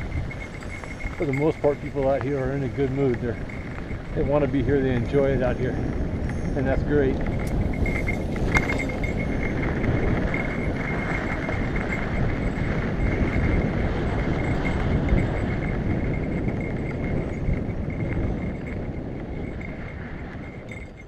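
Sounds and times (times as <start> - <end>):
bike tyres rattling on dirt trail: 0.0 - 21.0
thin steady high whine: 0.0 - 21.0
wind rushing over camera: 0.0 - 21.0.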